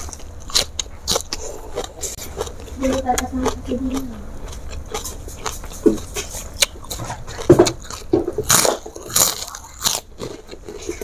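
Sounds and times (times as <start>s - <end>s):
crunching and chewing crispy food: 0.0s - 11.0s.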